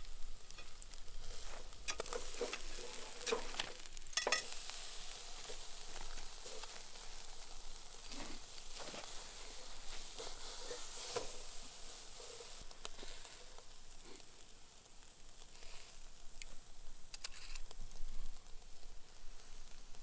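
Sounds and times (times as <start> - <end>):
ribs sizzling on a grill: 0.0 - 20.0.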